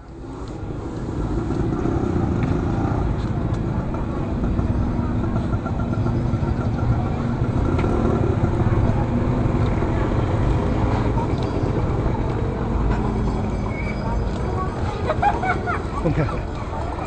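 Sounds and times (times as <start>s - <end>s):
faint voices: 0.0s - 17.0s
street traffic rumble: 0.0s - 17.0s.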